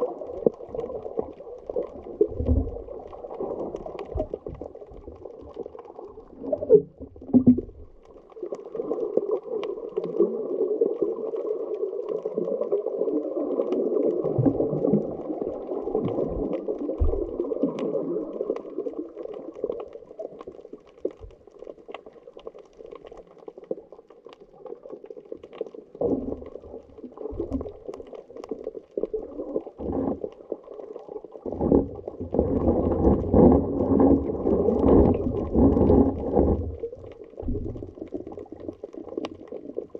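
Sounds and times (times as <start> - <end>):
underwater rush of water: 0.0 - 39.9.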